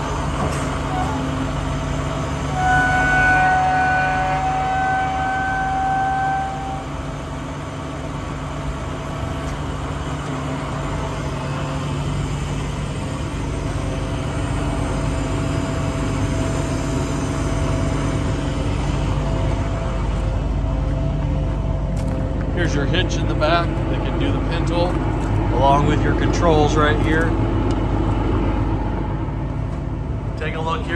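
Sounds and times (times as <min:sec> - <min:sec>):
diesel truck engine idling: 0:00.0 - 0:05.0, 0:05.8 - 0:30.9.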